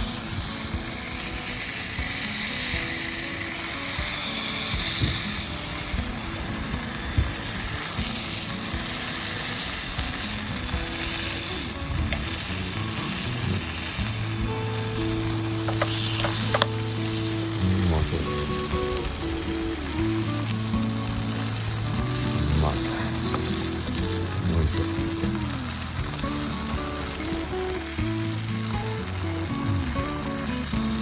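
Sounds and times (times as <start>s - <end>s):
bacon sizzling and spattering: 0.0s - 31.0s.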